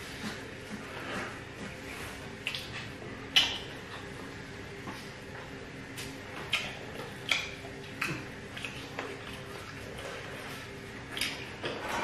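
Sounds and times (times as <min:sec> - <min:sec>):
faint steady hum: 0:00.0 - 0:12.0
lip smacks and chewing: 0:00.0 - 0:12.0.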